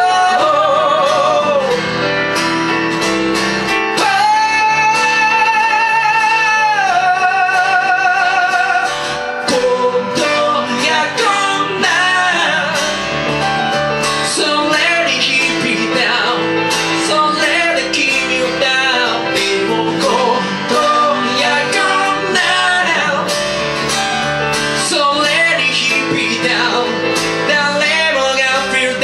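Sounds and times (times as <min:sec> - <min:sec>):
man singing with vibrato: 0:00.0 - 0:02.4, 0:03.7 - 0:29.0
acoustic guitar: 0:00.0 - 0:29.0
bass: 0:00.0 - 0:29.0
piano: 0:00.0 - 0:29.0.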